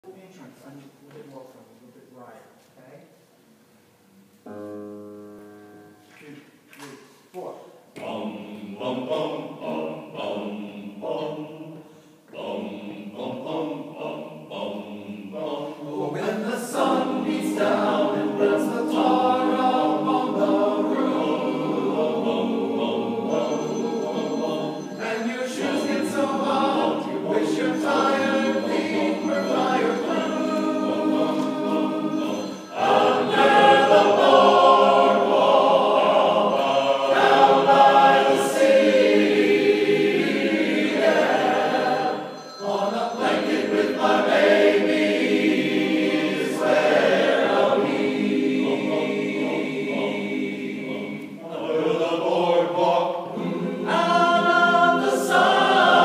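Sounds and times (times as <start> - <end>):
men's chorus singing: 8.0 - 56.0.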